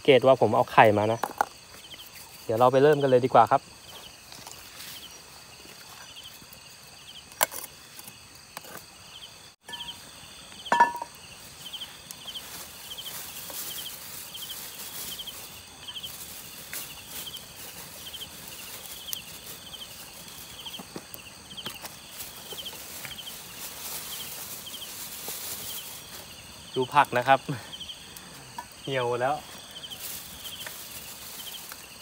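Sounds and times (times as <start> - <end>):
campfire crackling: 0.0 - 32.0
insects chirping: 0.0 - 32.0.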